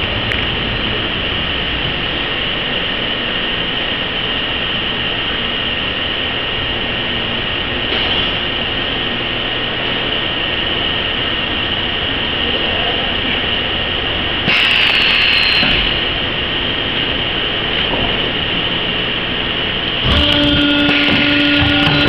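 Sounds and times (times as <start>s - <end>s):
compressor machine drone: 0.0s - 22.0s.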